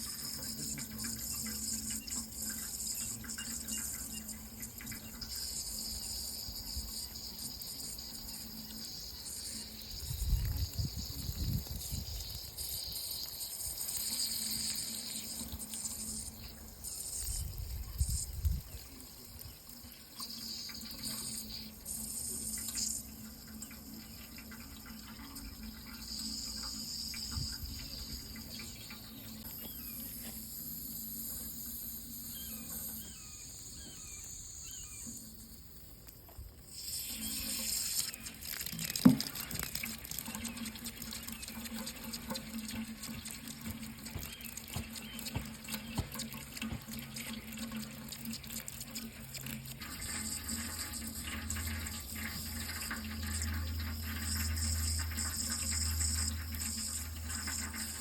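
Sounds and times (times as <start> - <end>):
water running and splashing: 0.0 - 35.5, 36.1 - 58.0.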